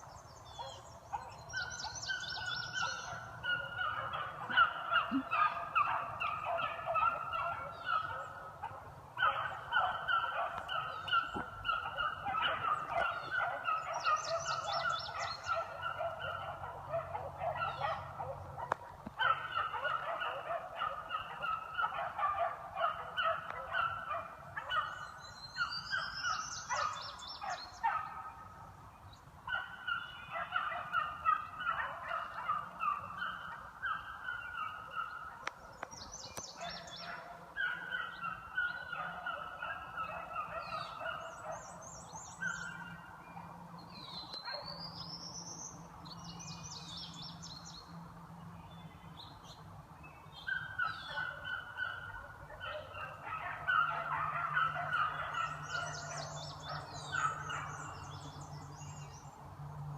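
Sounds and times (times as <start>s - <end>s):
dogs baying: 0.6s - 28.4s, 29.5s - 35.9s, 36.5s - 43.2s, 50.4s - 58.9s.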